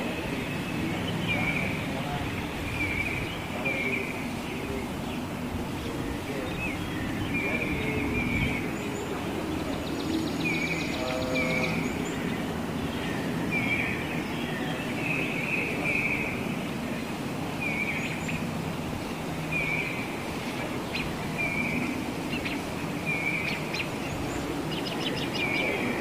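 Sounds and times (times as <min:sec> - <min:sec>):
bird calling: 0:00.0 - 0:26.0
outdoor background noise: 0:00.0 - 0:26.0.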